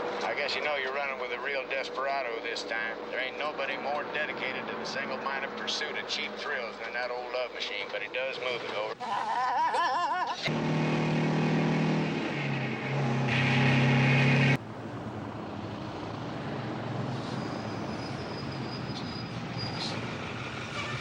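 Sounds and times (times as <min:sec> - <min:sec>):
truck engine running: 0:00.0 - 0:09.0, 0:10.5 - 0:21.0
road noise: 0:00.0 - 0:21.0.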